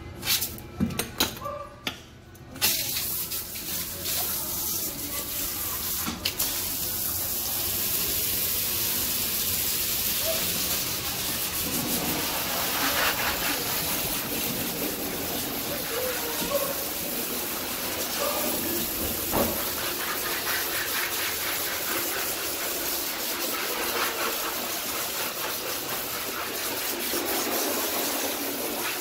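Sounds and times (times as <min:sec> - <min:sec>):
water sprayer spraying: 0:02.6 - 0:29.0.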